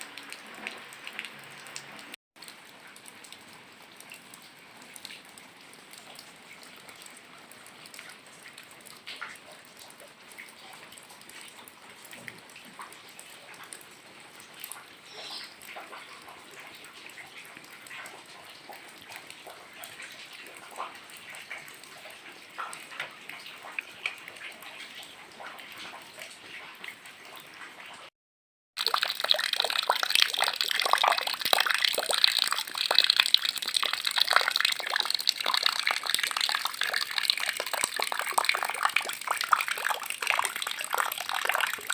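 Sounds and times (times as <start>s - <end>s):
light rain patter: 0.0s - 27.8s, 28.8s - 41.9s
heavy rain and pouring water: 0.0s - 28.1s, 28.8s - 41.9s.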